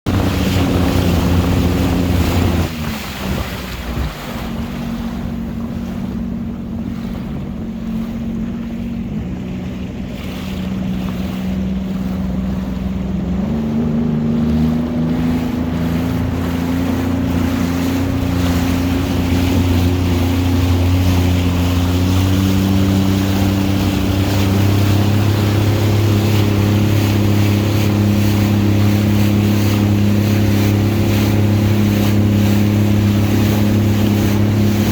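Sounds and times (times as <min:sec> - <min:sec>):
jet ski engine running: 0:00.0 - 0:34.9
water noise: 0:00.0 - 0:34.9
wind: 0:00.0 - 0:34.9.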